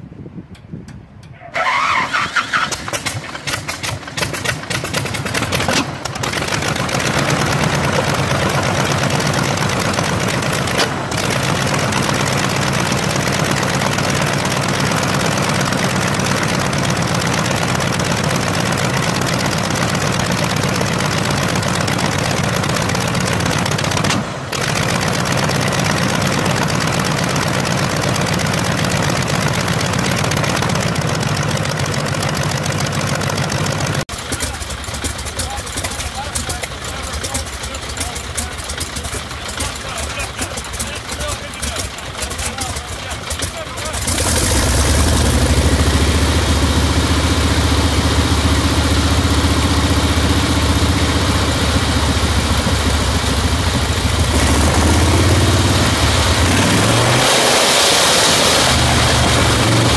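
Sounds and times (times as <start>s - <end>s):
aircraft engine starting and running: 0.5s - 59.9s.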